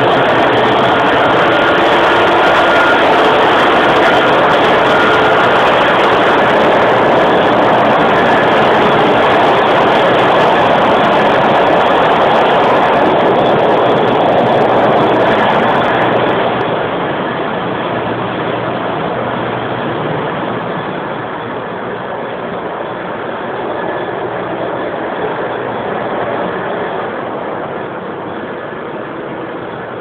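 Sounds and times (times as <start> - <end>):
engine-room machinery drone: 0.0 - 30.0.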